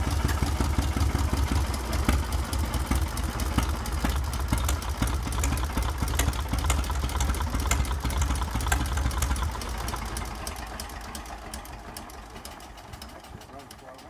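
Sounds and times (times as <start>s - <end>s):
tractor engine throbbing and knocking: 0.0s - 14.0s.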